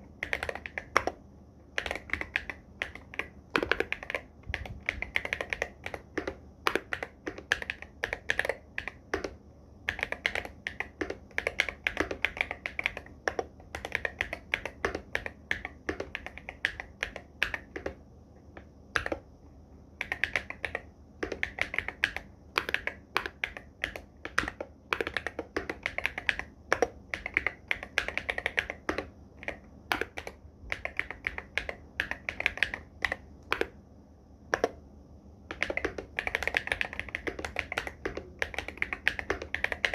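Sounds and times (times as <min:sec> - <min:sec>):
fast mechanical keyboard typing: 0:00.0 - 0:01.2, 0:01.8 - 0:18.0, 0:19.0 - 0:19.2, 0:20.0 - 0:33.8, 0:35.5 - 0:39.9.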